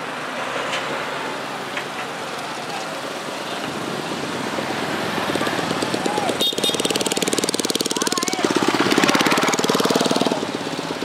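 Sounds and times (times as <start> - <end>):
heavy truck running: 0.0 - 11.0.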